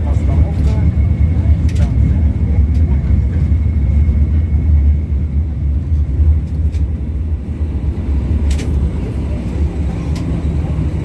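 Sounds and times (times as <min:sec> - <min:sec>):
trolleybus interior rumble: 0:00.0 - 0:11.0.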